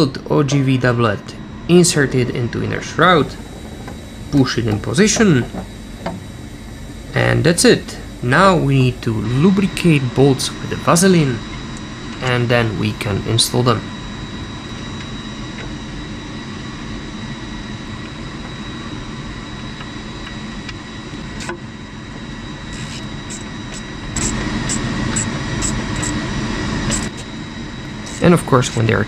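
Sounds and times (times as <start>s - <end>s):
mechanical hum with whine: 0.0s - 29.0s.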